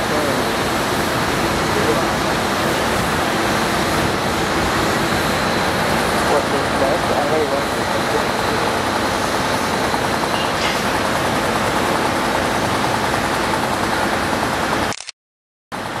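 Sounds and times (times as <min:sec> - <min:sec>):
excavator diesel engine running: 0:00.0 - 0:15.0, 0:15.8 - 0:16.0.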